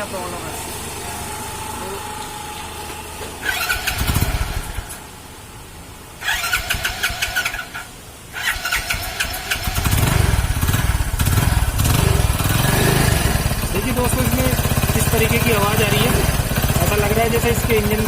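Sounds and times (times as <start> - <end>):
motorcycle engine cranking and running: 0.0 - 5.1, 6.2 - 18.0.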